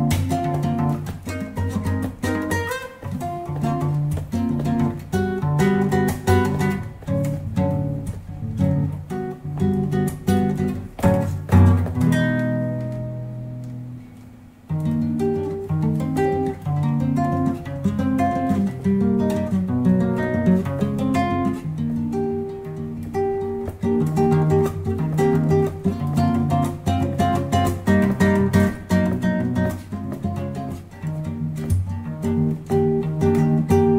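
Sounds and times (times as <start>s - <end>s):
acoustic guitar chords: 0.0s - 33.9s.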